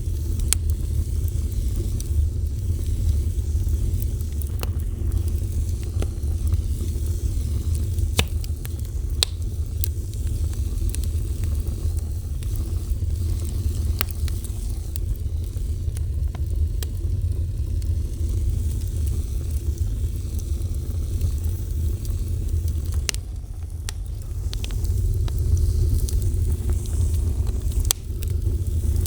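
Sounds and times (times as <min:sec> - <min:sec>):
fire crackling and popping: 0:00.0 - 0:29.0
fire rumbling: 0:00.0 - 0:29.0.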